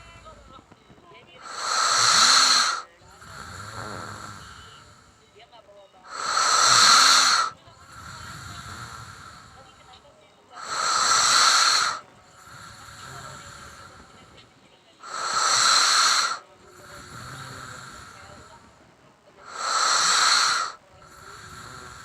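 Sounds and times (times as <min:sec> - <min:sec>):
man snoring: 0:00.0 - 0:00.7, 0:01.4 - 0:05.3, 0:06.1 - 0:10.0, 0:10.6 - 0:14.4, 0:15.0 - 0:18.7, 0:19.4 - 0:22.0
quiet breathing: 0:00.0 - 0:22.0.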